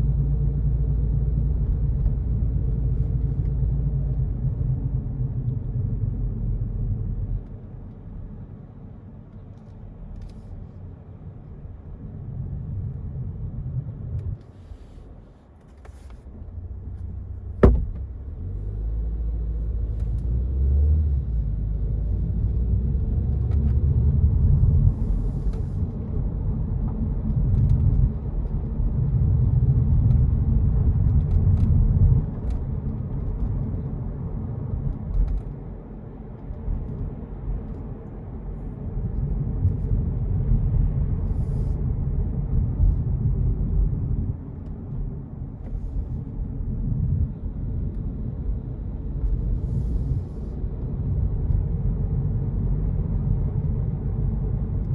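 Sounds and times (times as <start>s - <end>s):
car humming and rumbling: 0.0s - 54.9s.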